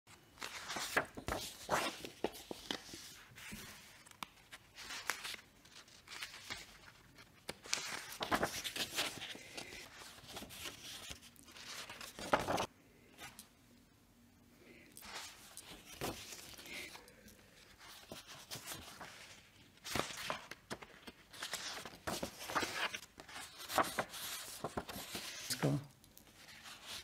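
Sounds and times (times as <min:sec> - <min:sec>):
paper rustling: 0:00.4 - 0:13.4, 0:15.0 - 0:27.0.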